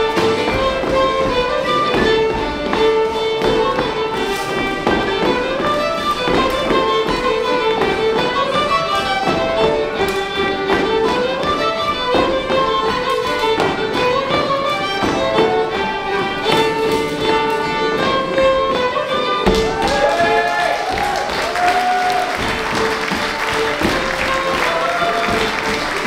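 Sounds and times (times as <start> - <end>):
dance steps on wooden floor: 0.0 - 26.0
fiddle playing dance tune: 0.0 - 26.0.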